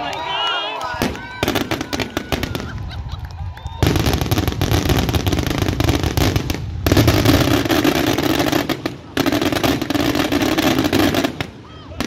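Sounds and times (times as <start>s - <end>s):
fireworks crackling and popping: 0.1s - 12.0s.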